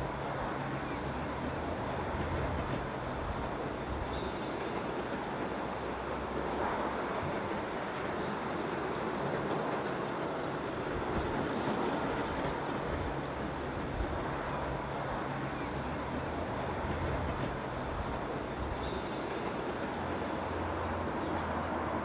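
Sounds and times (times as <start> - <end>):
distant train wagon rumbling on rails: 0.0 - 22.0.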